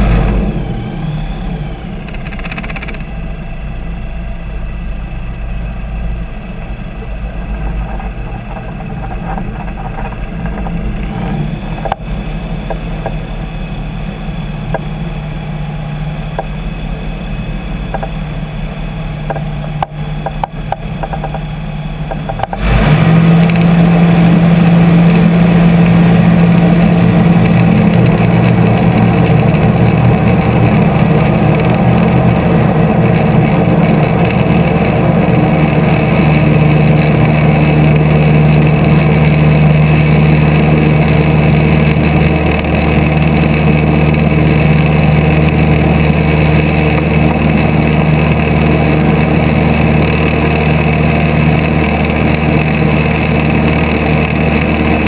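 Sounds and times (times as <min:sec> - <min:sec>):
light aircraft engine and propeller: 0:00.0 - 0:55.0.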